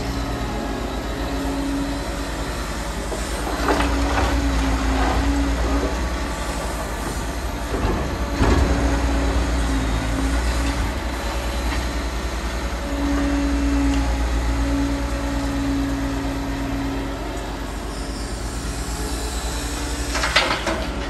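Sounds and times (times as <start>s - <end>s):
excavator diesel engine rumbling: 0.0s - 21.0s
hydraulic whine: 0.0s - 21.0s.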